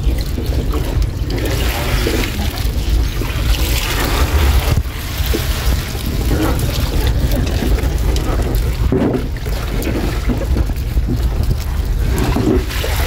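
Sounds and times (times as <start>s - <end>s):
heavy low rumble: 0.0s - 13.0s
water splashing and sloshing: 0.0s - 13.0s.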